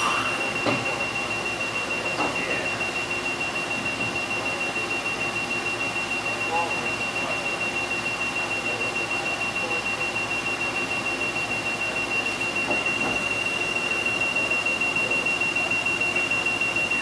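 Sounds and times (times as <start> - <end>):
high-pitched tone: 0.0 - 17.0.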